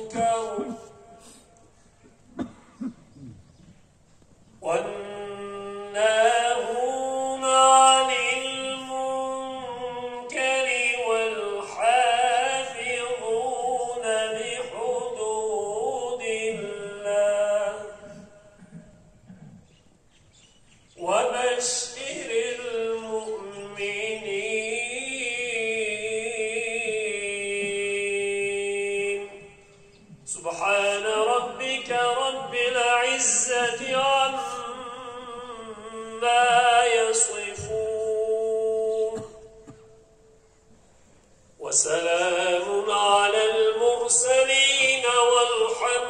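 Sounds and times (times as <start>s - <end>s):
man chanting: 0.0s - 1.7s, 4.6s - 19.6s, 21.0s - 40.1s, 41.6s - 46.0s.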